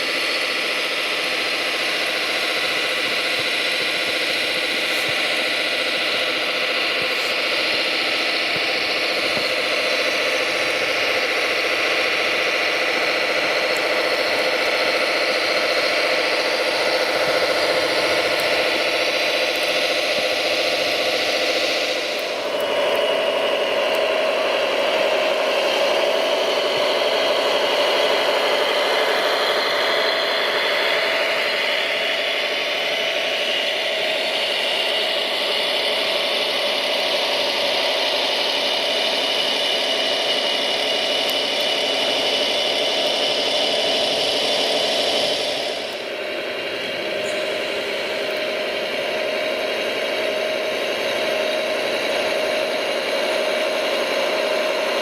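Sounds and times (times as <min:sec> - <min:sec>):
high whine: 0:00.0 - 0:55.0
model machine motors whirring: 0:00.0 - 0:55.0.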